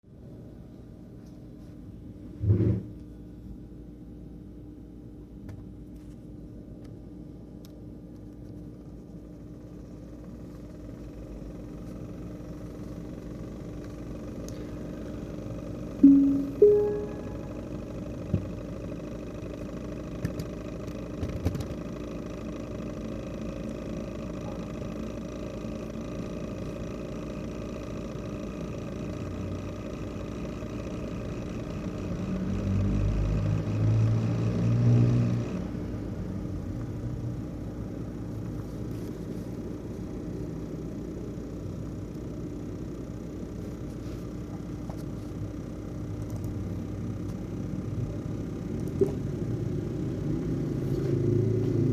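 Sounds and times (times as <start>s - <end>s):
laptop fan whirring and rattling: 0.1s - 51.9s.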